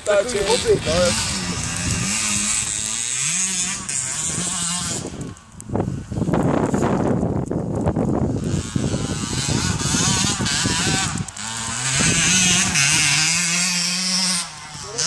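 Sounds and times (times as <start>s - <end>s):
pit bike engine revving: 0.0s - 15.0s.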